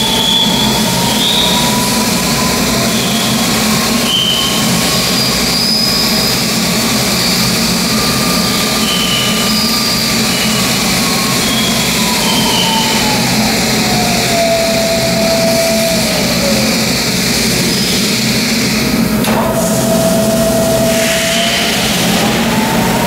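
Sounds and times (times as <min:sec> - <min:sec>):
spindle whine: 0:00.0 - 0:23.0.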